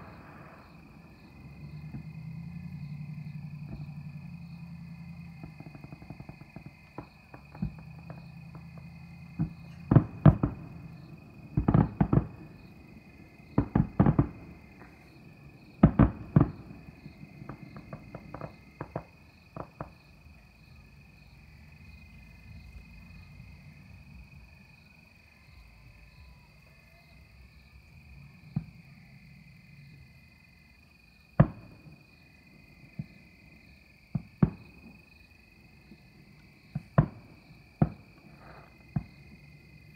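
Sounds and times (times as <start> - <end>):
distant fireworks booming: 0.0 - 24.0, 27.8 - 30.2, 31.3 - 39.9
crickets chirping: 0.0 - 39.9.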